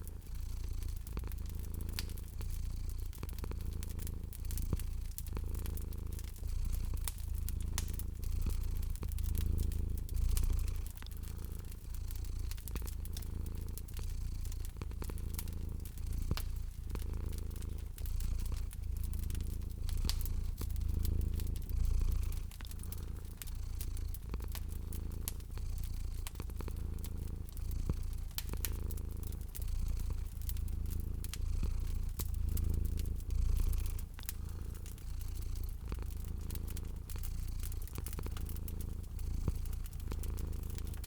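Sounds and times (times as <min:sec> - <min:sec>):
cat purring: 0:00.0 - 0:41.0
fireplace fire crackling: 0:00.0 - 0:41.0.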